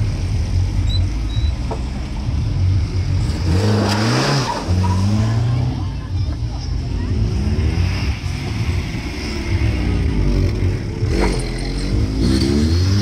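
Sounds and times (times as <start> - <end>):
car engines accelerating: 0.0 - 13.0.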